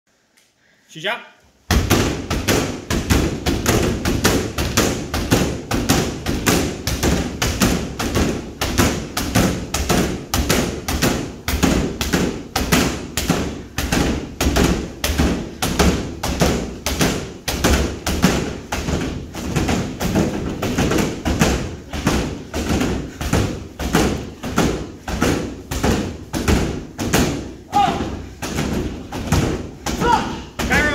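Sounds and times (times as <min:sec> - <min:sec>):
kicks thudding into punching bag: 0:01.7 - 0:30.9.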